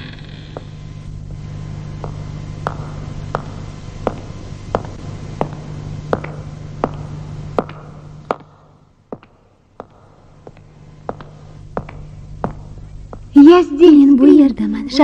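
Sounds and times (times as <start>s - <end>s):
steady low hum: 0.0s - 15.0s
footsteps on hard floor: 0.5s - 13.4s.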